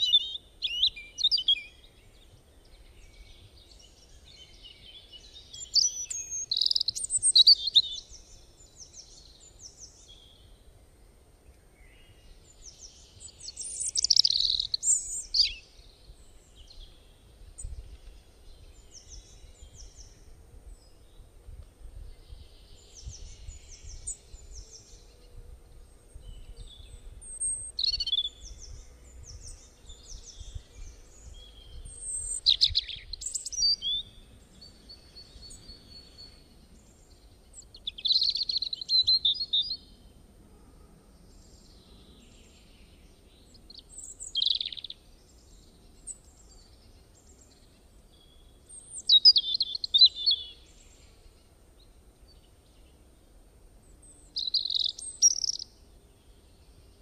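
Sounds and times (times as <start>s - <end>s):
wild birds chirping: 0.0s - 21.4s, 22.0s - 57.0s.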